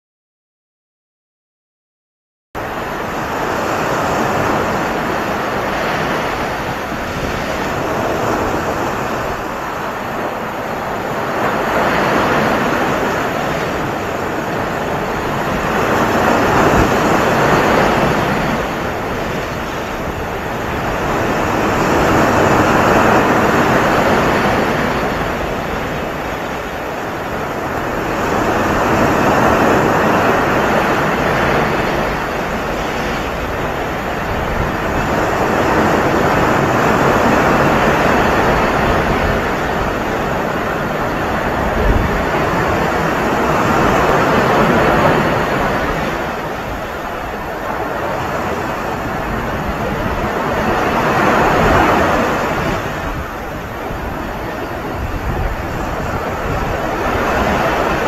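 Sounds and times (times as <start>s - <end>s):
ocean waves breaking: 2.6s - 58.0s.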